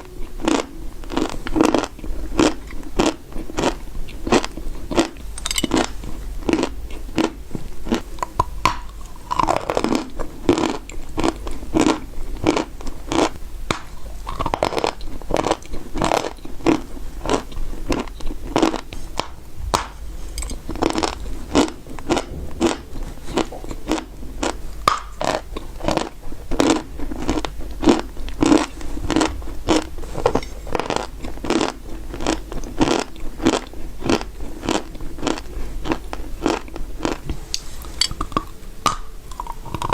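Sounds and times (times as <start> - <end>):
chewing crunchy clay: 0.0 - 39.9.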